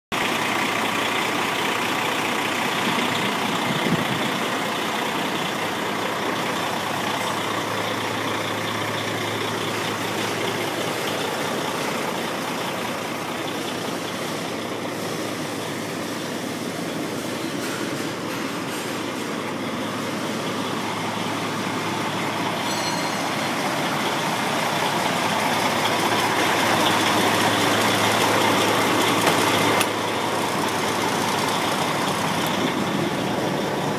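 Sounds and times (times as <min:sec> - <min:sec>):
diesel truck engine running: 0:00.1 - 0:33.9.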